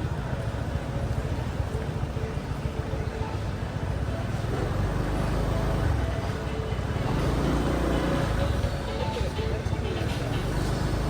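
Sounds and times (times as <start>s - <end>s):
motorbike engine rumble: 0.0s - 11.0s
road and traffic noise: 0.0s - 11.0s.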